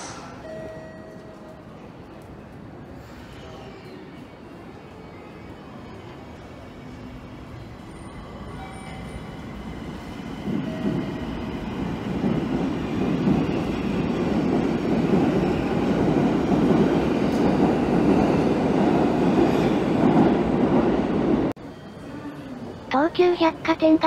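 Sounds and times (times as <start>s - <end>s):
subway train pulling out: 0.0s - 24.0s.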